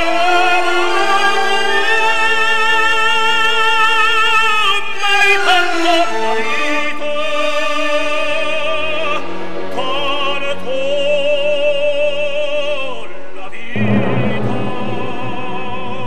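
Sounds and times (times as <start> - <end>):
operatic solo voice singing: 0.0 - 16.0
orchestral accompaniment: 0.0 - 16.0.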